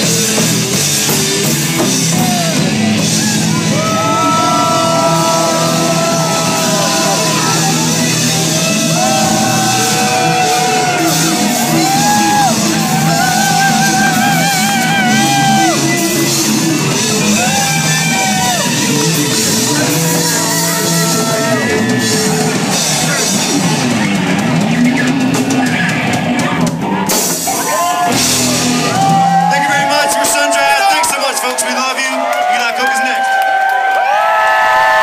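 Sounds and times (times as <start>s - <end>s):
rock band playing: 0.0s - 33.7s.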